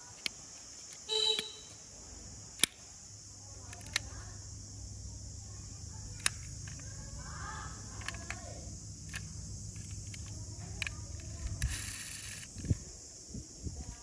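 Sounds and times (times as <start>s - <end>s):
steady low hum and hiss: 0.0s - 14.0s.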